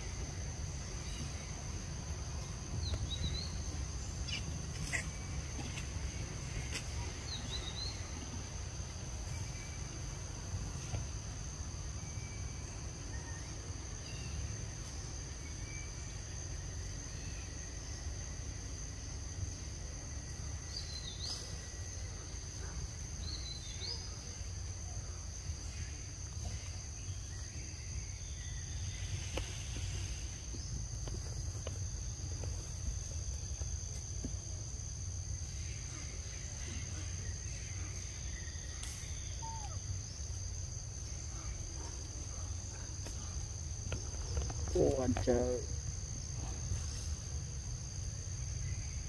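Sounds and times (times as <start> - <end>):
insects droning in high tones: 0.0 - 49.0.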